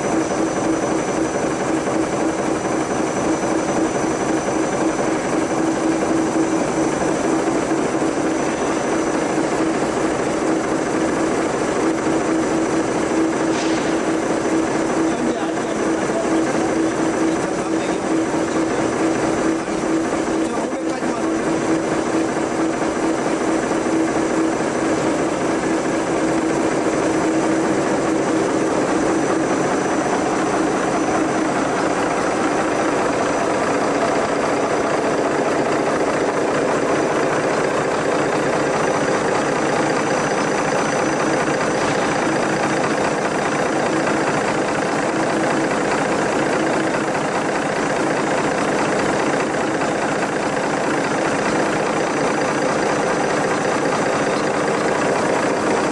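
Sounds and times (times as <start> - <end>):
engine whirring and humming: 0.0 - 55.9.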